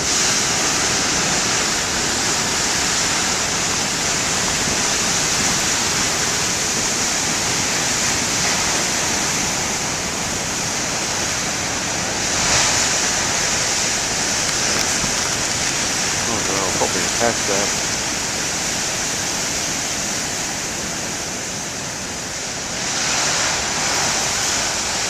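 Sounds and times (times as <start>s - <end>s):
waves breaking on shore: 0.0s - 25.0s.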